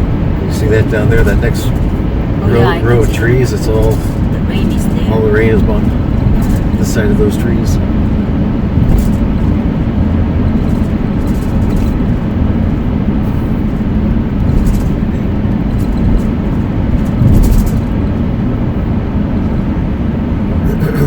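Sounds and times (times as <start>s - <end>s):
car road noise rumble: 0.0s - 21.0s.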